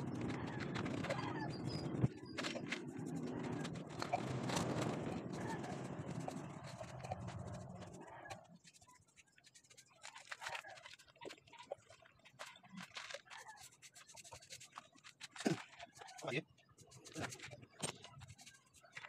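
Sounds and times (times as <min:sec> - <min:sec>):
paintbrush strokes on wood: 0:00.1 - 0:11.1, 0:11.8 - 0:19.0.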